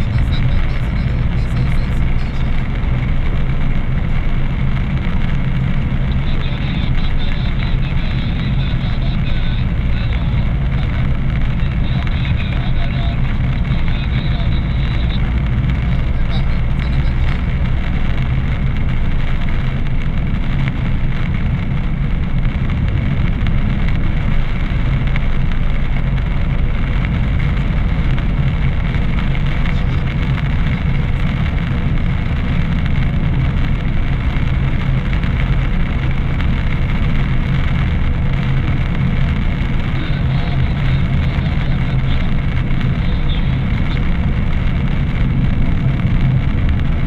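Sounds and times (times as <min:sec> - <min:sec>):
car engine and tyre drone: 0:00.0 - 0:47.0.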